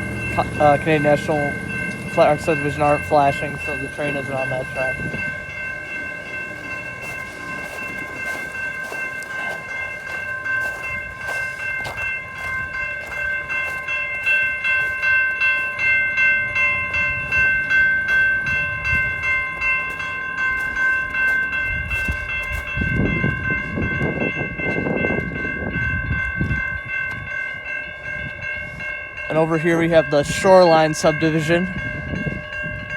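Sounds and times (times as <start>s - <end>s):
railroad crossing bell ringing: 0.0s - 32.9s.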